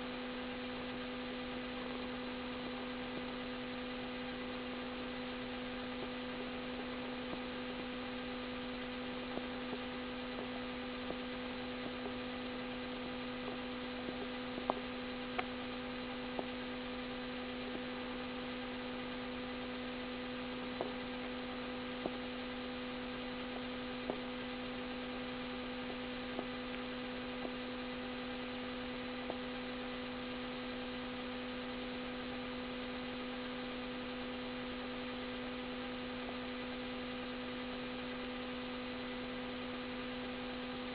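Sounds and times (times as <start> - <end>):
steady electrical hum: 0.0 - 40.9.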